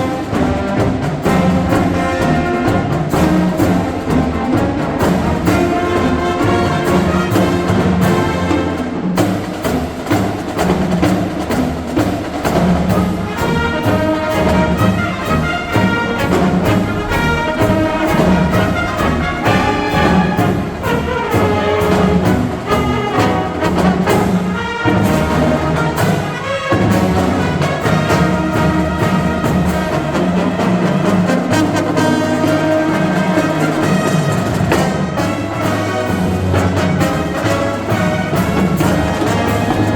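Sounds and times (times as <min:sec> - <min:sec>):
marching band playing: 0:00.0 - 0:39.9.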